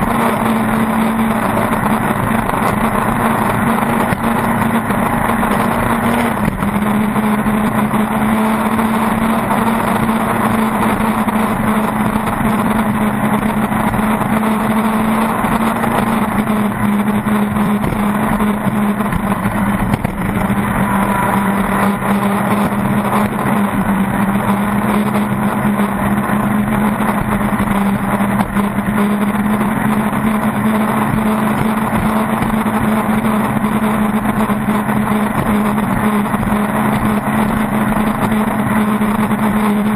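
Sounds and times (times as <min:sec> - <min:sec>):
boat engine running hard: 0:00.0 - 0:39.9.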